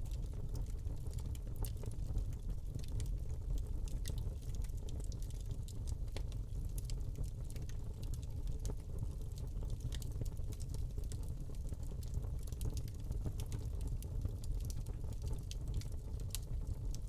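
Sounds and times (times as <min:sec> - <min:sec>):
burning log crackling and popping: 0:00.0 - 0:17.0.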